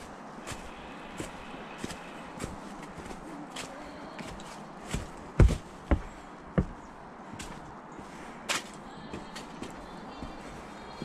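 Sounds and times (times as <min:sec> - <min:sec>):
footsteps on paved path: 0:00.0 - 0:10.7
steady outdoor hiss: 0:00.0 - 0:11.0.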